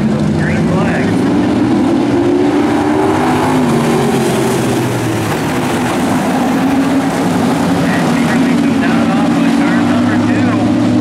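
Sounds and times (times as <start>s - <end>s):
race car engines passing: 0.0s - 11.0s.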